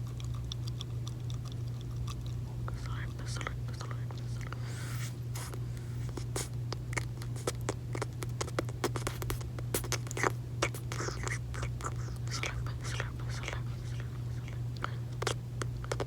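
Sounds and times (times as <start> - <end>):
gum chewing mouth sounds: 0.0 - 16.0
steady low hum: 0.0 - 16.0.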